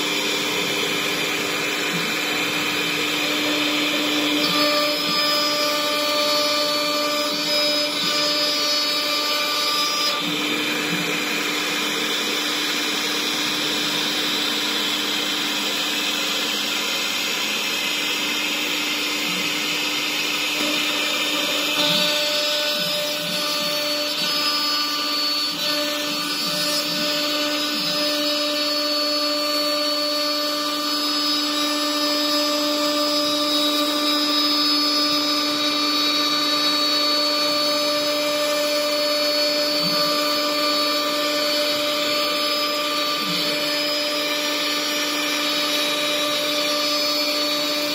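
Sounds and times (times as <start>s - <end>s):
router spindle whine: 0.0s - 47.9s.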